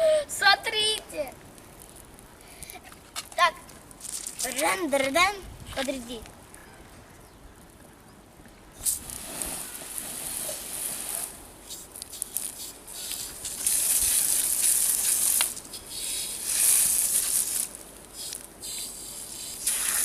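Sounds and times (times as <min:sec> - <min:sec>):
fire hissing and rustling: 0:00.3 - 0:06.6, 0:08.8 - 0:20.0
campfire crackling: 0:00.6 - 0:05.1, 0:07.4 - 0:20.0.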